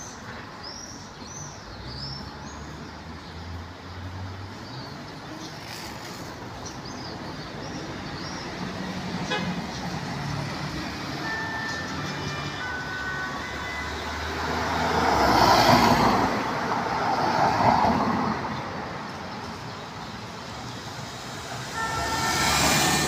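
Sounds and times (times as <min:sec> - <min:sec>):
steady city traffic hum: 0:00.0 - 0:23.0
vehicles passing close by: 0:00.0 - 0:23.0.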